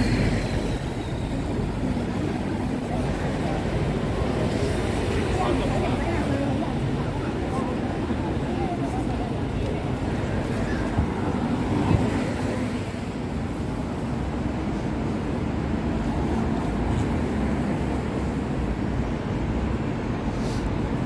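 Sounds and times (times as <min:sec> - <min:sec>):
vehicle rumbling: 0:00.0 - 0:21.0.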